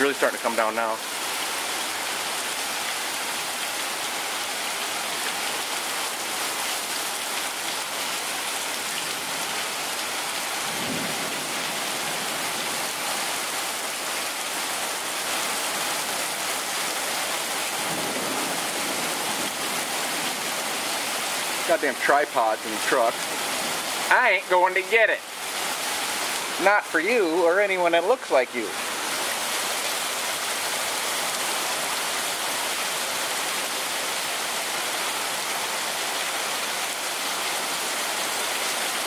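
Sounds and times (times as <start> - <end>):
heavy rain on pavement: 0.0 - 39.0.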